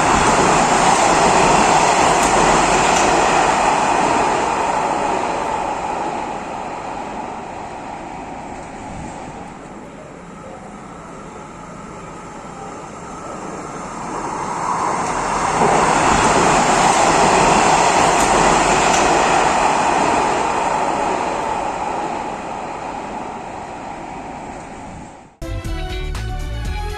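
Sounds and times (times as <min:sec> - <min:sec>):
metro train passing: 0:00.0 - 0:25.4.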